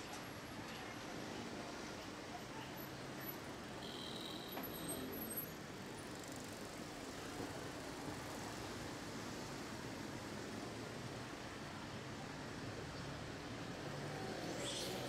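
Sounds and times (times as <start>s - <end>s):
road traffic hum: 0.1s - 15.0s.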